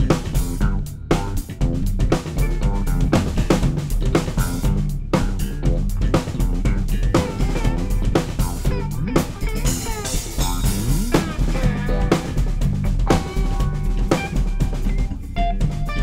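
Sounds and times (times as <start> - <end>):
band jamming: 0.0 - 16.0
strong drum hits: 0.0 - 16.0.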